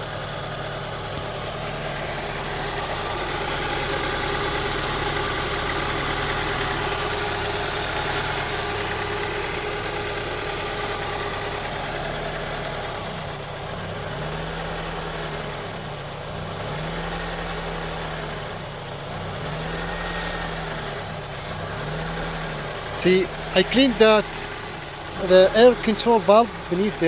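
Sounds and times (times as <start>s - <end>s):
car engine idling roughly: 0.0s - 27.0s.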